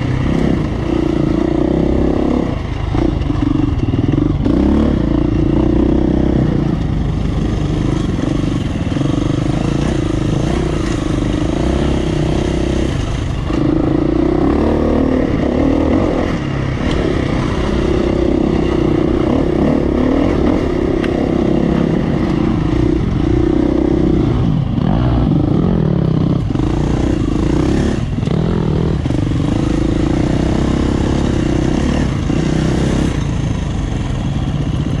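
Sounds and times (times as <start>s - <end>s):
dirt bike engine revving: 0.0s - 34.1s.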